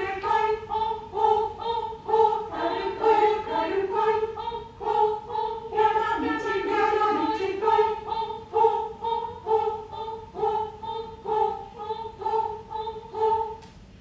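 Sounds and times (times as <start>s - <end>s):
mixed choir singing: 0.0s - 13.6s.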